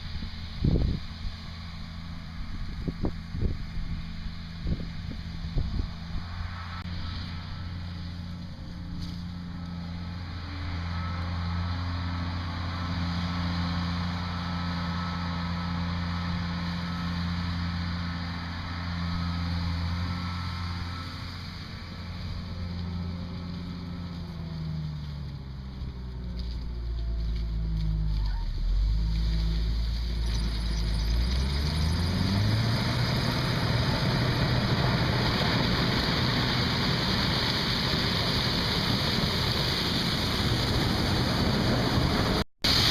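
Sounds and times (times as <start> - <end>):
combine harvester engine running: 0.0 - 42.9
rushing machinery noise: 5.6 - 42.9.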